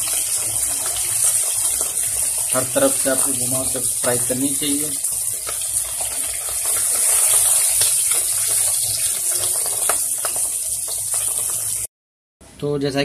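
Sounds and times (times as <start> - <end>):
fish sizzling in hot oil: 0.0 - 11.9
oil crackles: 0.0 - 11.9.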